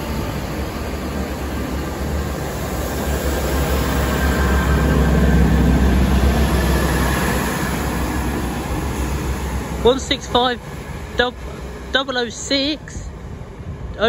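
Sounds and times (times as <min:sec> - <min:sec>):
diesel train engine rumble: 0:00.0 - 0:14.0.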